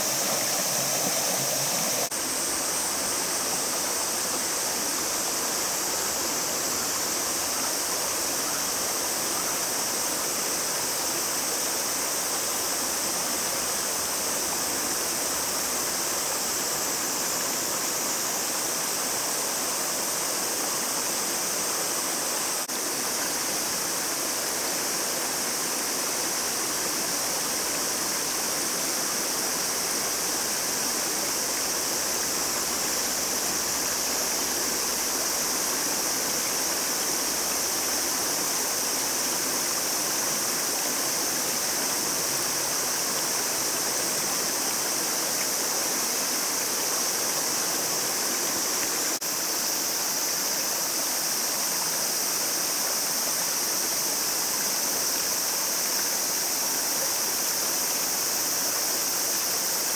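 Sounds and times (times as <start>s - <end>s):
river flowing over stones: 0.0s - 59.9s.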